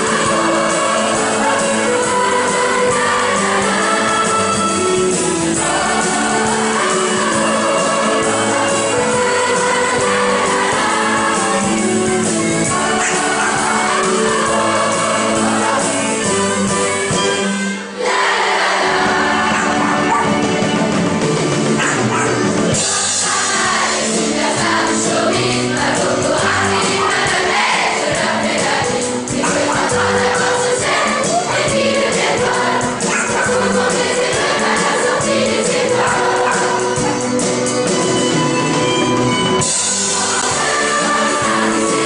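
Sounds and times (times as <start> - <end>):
band playing lively song: 0.0 - 42.0
choir singing: 0.0 - 42.0.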